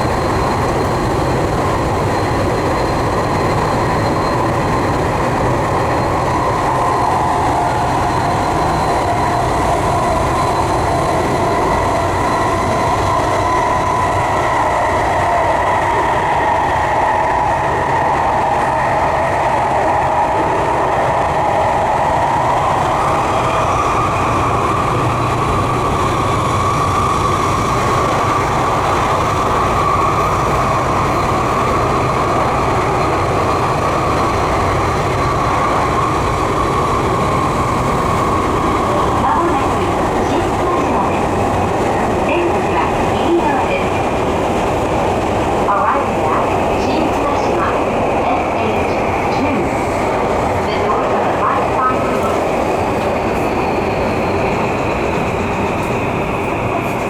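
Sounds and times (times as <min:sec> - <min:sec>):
electric train wheels on rails: 0:00.0 - 0:57.0.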